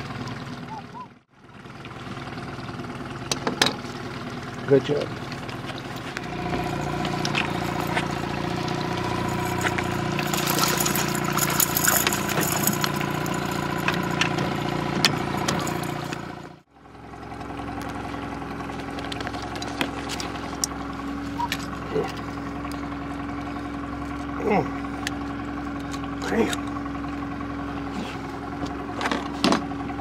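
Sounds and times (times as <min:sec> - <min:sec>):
boat motor running: 0:00.0 - 0:30.0.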